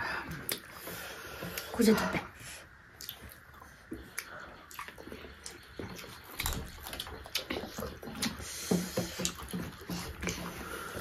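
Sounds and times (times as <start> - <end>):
wet chewing and lip-smacking: 0.3 - 1.8, 2.8 - 11.0.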